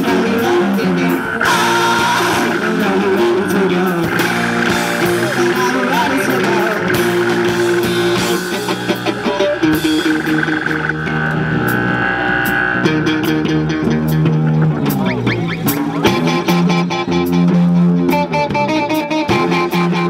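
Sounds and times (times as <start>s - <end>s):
bass: 0.0s - 20.0s
live rock band playing: 0.0s - 20.0s.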